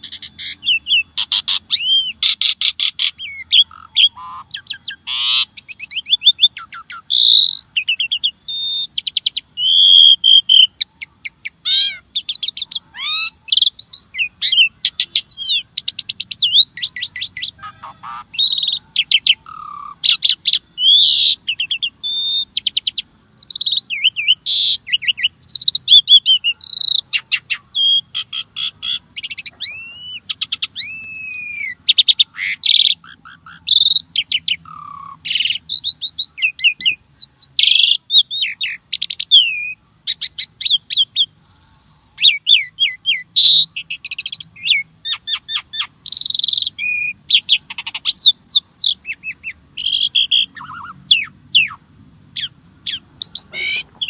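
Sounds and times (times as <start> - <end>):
starling singing: 0.0 - 54.0.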